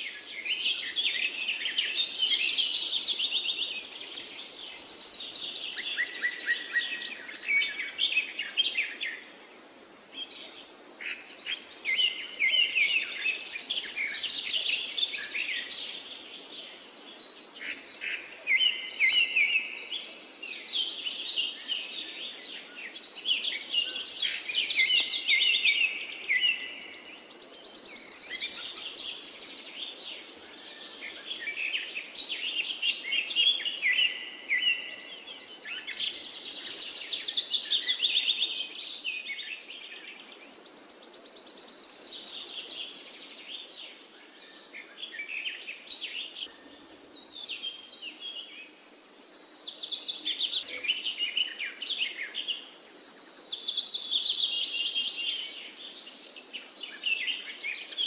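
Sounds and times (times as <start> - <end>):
birds chirping and trilling: 10.2 - 58.0.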